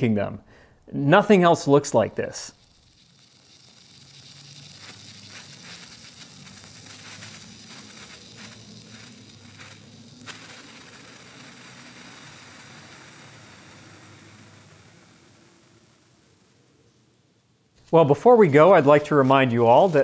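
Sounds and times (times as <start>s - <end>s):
sparkler sizzling and crackling: 1.8s - 20.0s.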